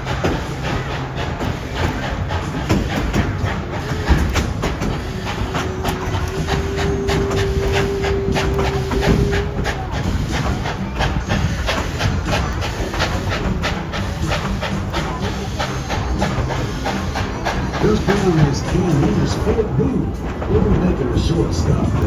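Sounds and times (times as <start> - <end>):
steam train rumbling and clattering: 0.0 - 22.0.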